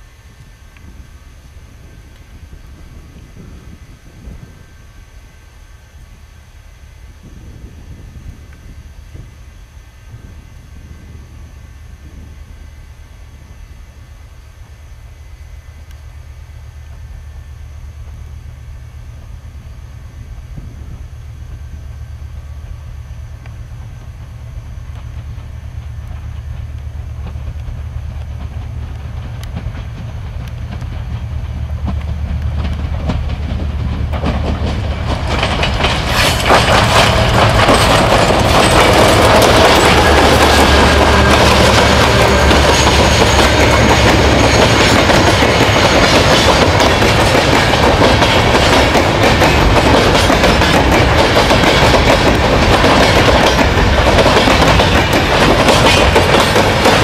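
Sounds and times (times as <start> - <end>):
diesel locomotive engines droning: 0.0 - 57.0.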